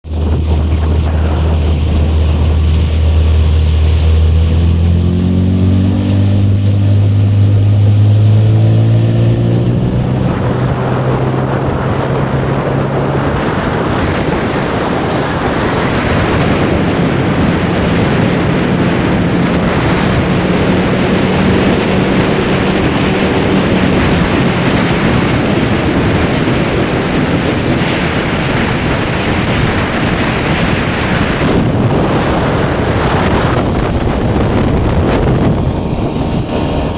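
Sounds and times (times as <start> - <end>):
outboard motor revving: 0.0 - 36.9
water noise: 0.0 - 36.9
wind on microphone: 0.0 - 36.9.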